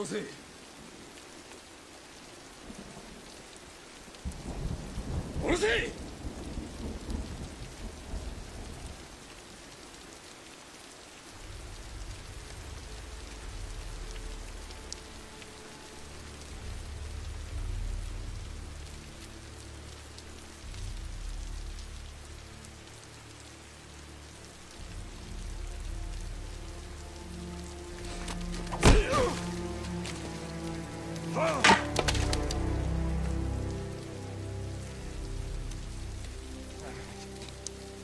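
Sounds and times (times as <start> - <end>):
heavy rain pattering: 0.0 - 38.0.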